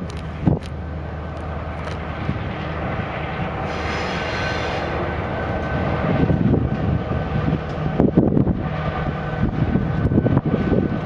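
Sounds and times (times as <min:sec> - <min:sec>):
diesel locomotive engine drone: 0:00.0 - 0:11.0
wind buffeting microphone: 0:00.0 - 0:11.0.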